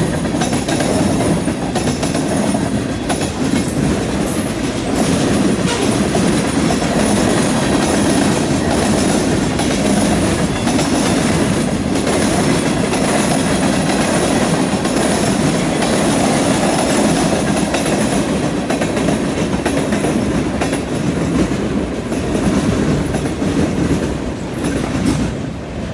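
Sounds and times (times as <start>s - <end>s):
wheels clacking over rail joints: 0.0s - 25.4s
freight train wheels rumbling: 0.0s - 25.9s.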